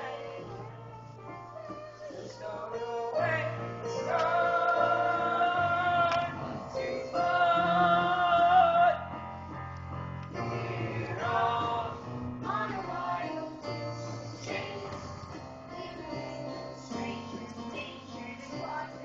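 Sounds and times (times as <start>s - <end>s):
male and female voices singing: 0.0s - 9.0s, 10.4s - 19.0s.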